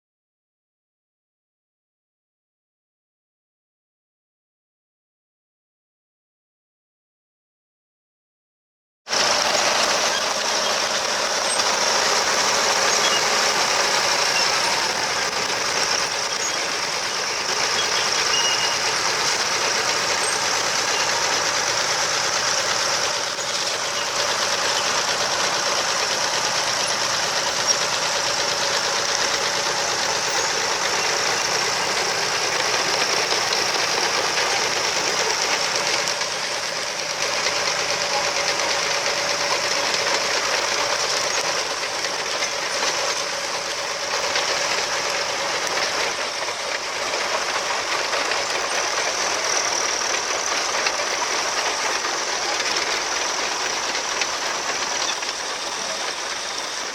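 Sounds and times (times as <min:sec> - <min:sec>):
tractor engines running: 0:09.1 - 0:56.9.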